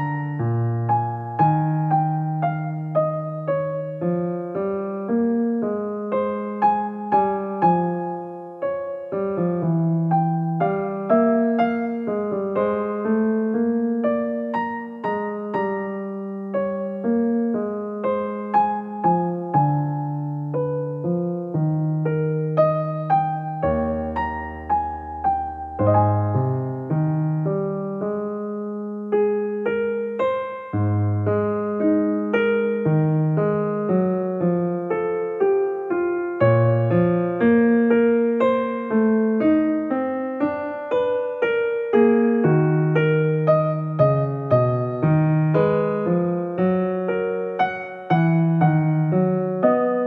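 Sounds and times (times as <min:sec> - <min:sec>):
gentle piano music: 0:00.0 - 0:50.0.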